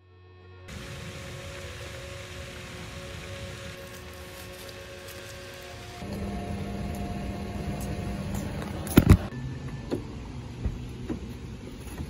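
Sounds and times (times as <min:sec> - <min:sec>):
car humming: 0:00.7 - 0:12.0.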